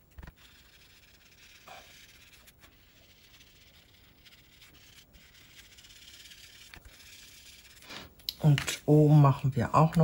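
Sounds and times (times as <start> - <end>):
ink sponge dabbing on card: 0.1 - 8.6.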